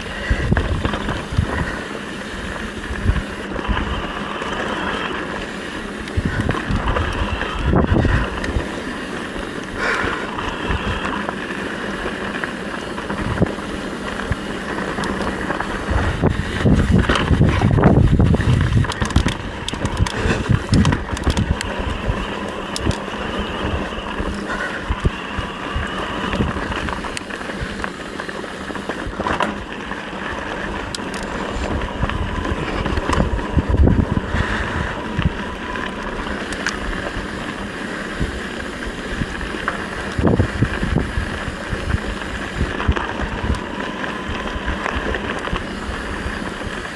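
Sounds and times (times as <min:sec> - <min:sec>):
rough rumble: 0:00.0 - 0:46.9
wind rushing over microphone: 0:00.0 - 0:46.9.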